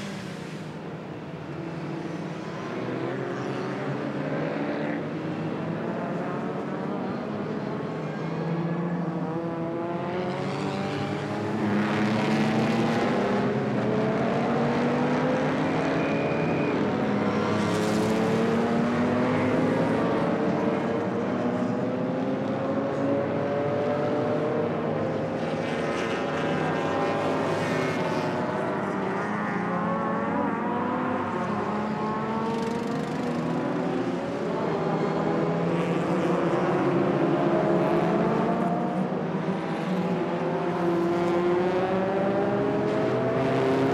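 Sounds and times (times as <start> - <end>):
racing car engines: 0.0 - 43.9.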